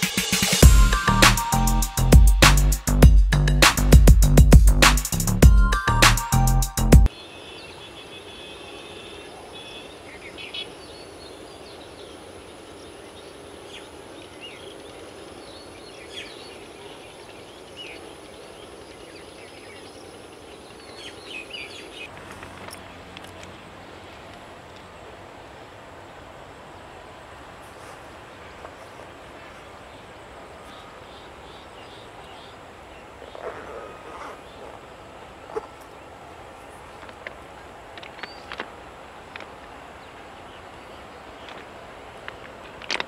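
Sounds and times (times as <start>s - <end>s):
steady background noise: 7.0s - 43.0s.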